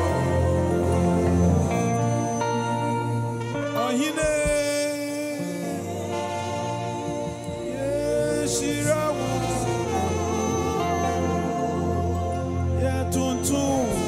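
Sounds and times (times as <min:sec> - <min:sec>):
long held chords: 0:00.0 - 0:14.0
person singing: 0:00.0 - 0:14.0.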